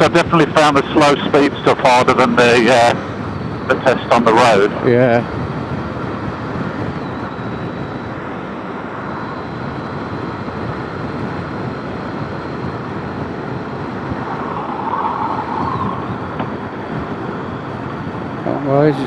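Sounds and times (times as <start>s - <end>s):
wind buffeting helmet microphone: 0.0s - 18.6s.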